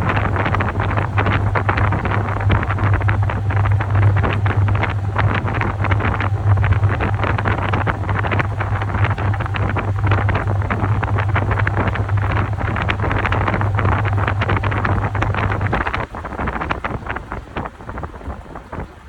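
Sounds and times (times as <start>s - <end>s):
low motor hum: 0.0s - 19.0s
water churning and sloshing: 0.0s - 19.0s.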